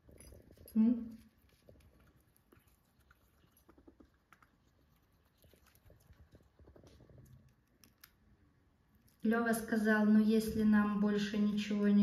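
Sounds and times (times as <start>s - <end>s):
rats nibbling seeds: 0.0s - 9.8s.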